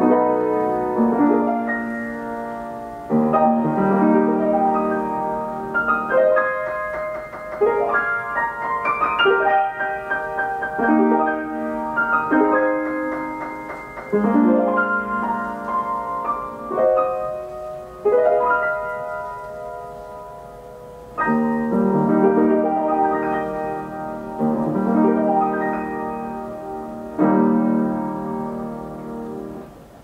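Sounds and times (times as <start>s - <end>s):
piano chords ringing: 0.0s - 30.0s.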